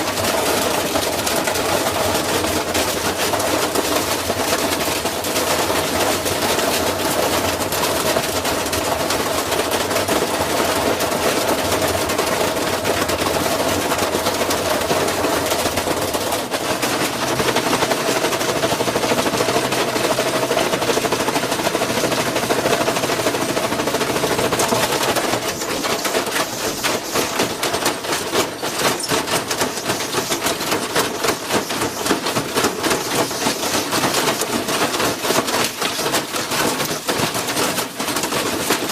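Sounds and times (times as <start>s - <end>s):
rattling and knocking: 0.0s - 38.9s
washing machine spinning: 0.0s - 38.9s.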